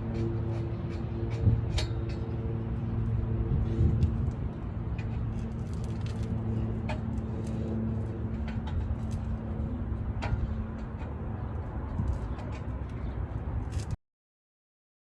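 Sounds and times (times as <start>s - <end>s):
low background rumble: 0.0s - 14.0s
low mechanical hum: 0.0s - 14.0s.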